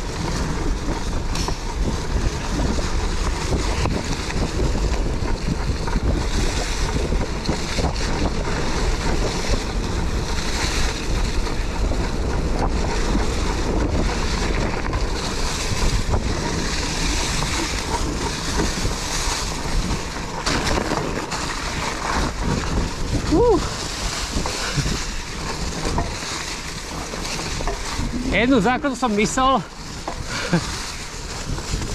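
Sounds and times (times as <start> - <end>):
steady rushing noise: 0.0 - 31.9
wind buffeting microphone: 0.0 - 31.9.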